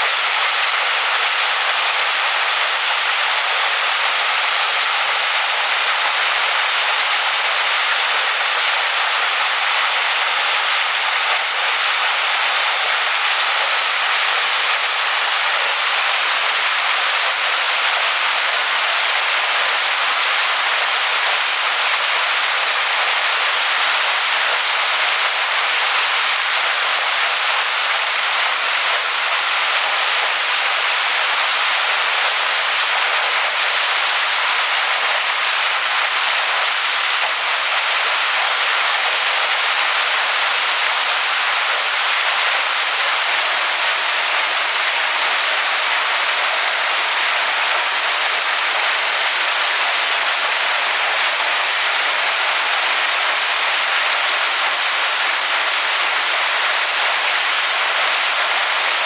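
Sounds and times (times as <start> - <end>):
waterfall splashing onto rocks: 0.0 - 59.0.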